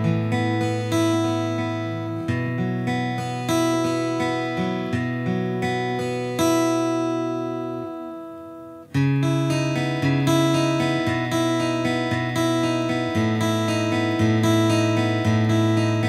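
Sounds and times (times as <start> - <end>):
acoustic guitar picking: 0.0 - 16.0.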